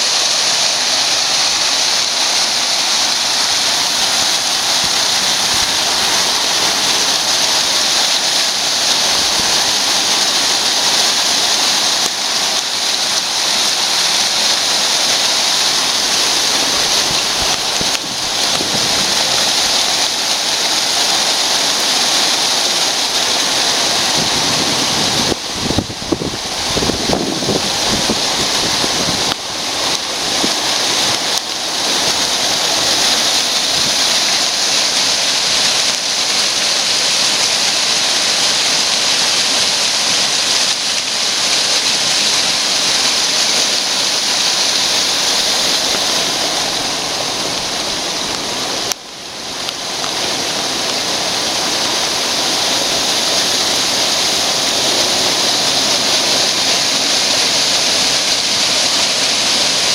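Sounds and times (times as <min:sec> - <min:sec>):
rush of flowing water: 0:00.0 - 0:59.9.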